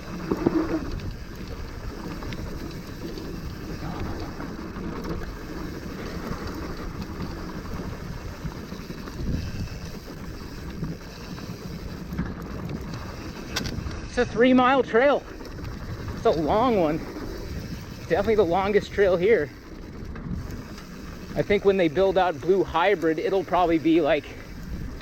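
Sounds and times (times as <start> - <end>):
wind buffeting microphone: 0.0 - 14.2, 14.8 - 22.6, 24.4 - 25.0
bike knocking and rattling: 0.0 - 25.0
tyres crunching on dirt: 0.0 - 25.0.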